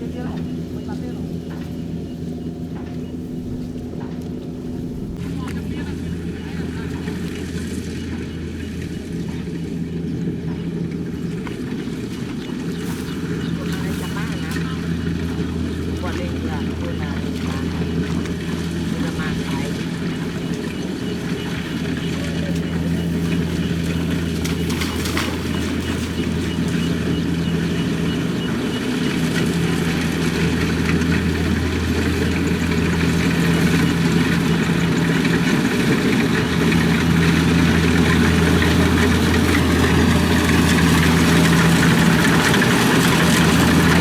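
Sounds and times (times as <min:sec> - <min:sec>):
combine harvester engine droning: 0:00.0 - 0:44.0.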